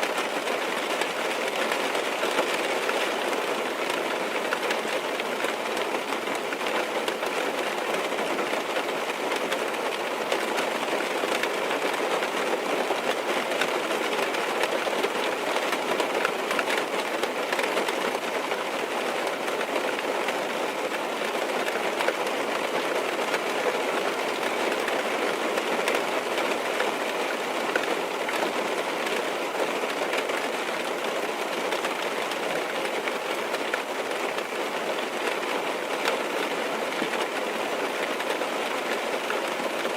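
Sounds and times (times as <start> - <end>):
heavy rain on car roof: 0.0 - 39.9.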